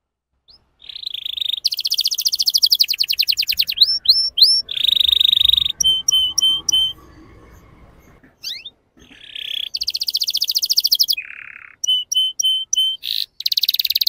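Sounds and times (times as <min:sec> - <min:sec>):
canary singing: 0:00.4 - 0:14.0.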